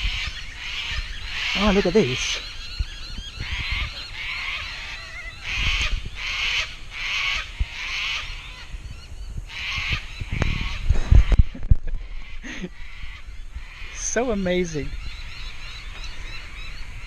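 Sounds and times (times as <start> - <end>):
cockatoos screeching: 0.0 - 8.8, 9.5 - 17.0.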